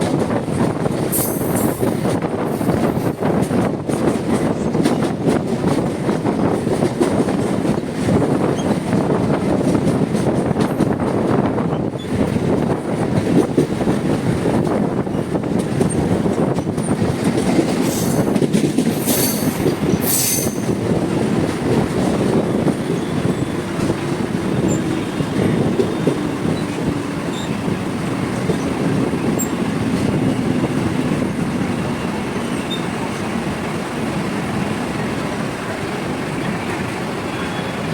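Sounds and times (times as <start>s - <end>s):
electric train rumbling past: 0.0s - 37.9s.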